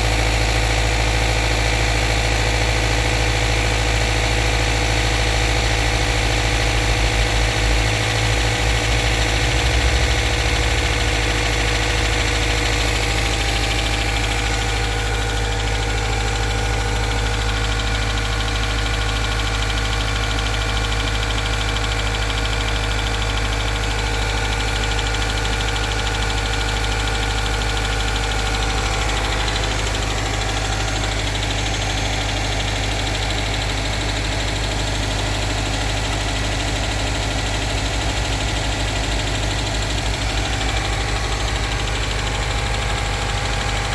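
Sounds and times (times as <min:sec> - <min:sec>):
car engine idling with knock: 0:00.0 - 0:43.9.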